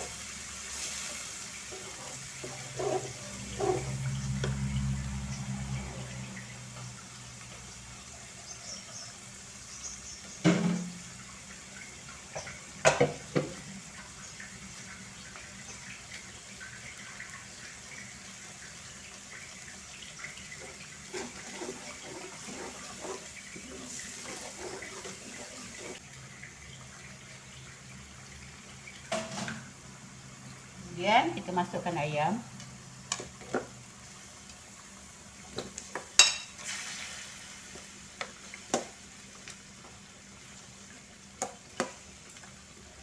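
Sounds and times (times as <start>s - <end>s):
sauce simmering in a wok: 0.0s - 43.0s.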